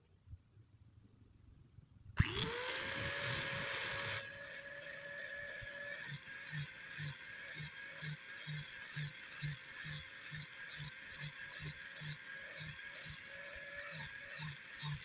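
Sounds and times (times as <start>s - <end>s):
angle grinder grinding steel: 2.2s - 15.0s.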